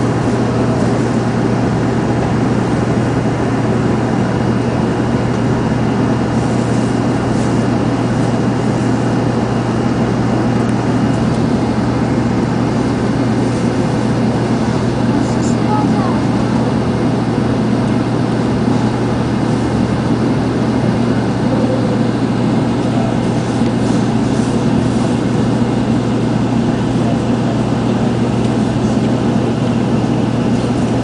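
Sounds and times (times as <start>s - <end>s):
constant low hum: 0.0s - 31.0s
train running rumble: 0.0s - 31.0s.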